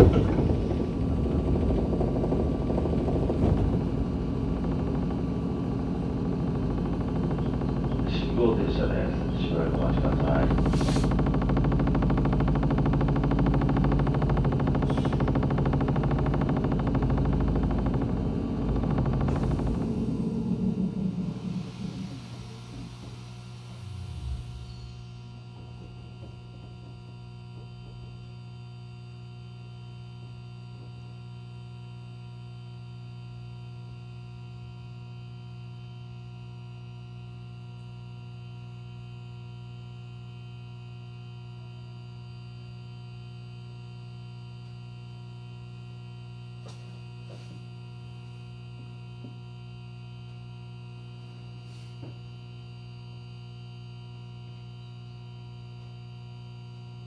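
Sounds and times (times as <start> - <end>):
train electrical hum: 0.0 - 57.0.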